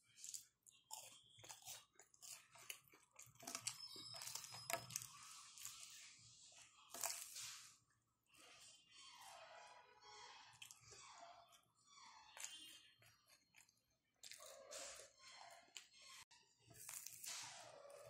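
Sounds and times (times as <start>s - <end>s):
wet chewing: 0.0s - 7.6s, 10.0s - 18.0s
crunching while eating: 0.0s - 18.0s.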